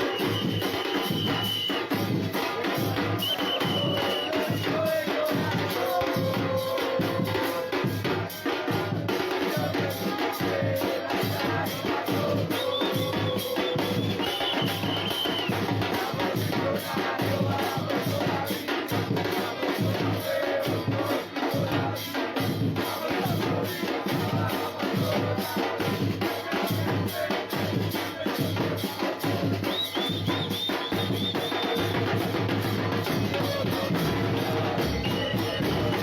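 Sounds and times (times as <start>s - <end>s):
drums and percussion band: 0.0s - 36.0s.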